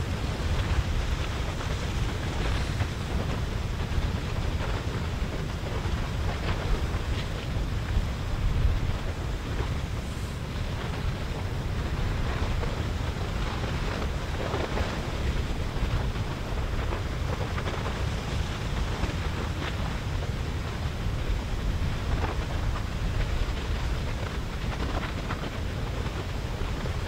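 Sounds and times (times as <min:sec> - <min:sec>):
faint crackles of lava crust: 0:00.0 - 0:27.0
lava rushing: 0:00.0 - 0:27.0
wind rumble on microphone: 0:00.0 - 0:27.0.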